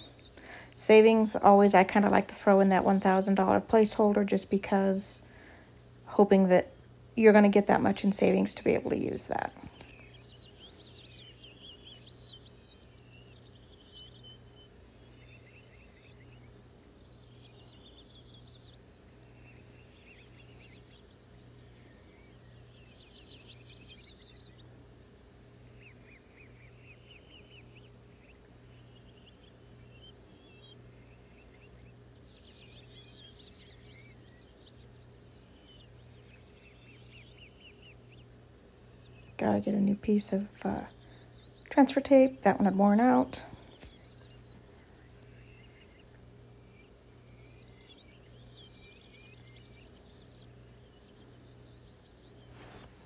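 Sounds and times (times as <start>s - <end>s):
faint bird chirping: 0.0s - 53.0s
low steady hum: 0.0s - 53.0s.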